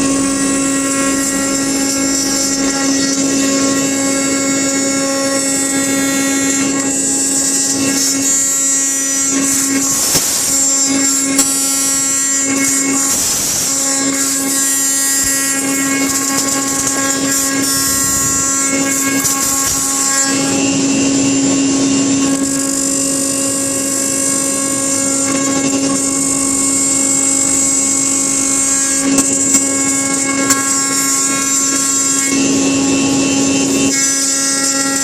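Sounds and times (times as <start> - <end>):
router cutter milling wood: 0.0 - 35.0
spindle hum with high whine: 0.0 - 35.0.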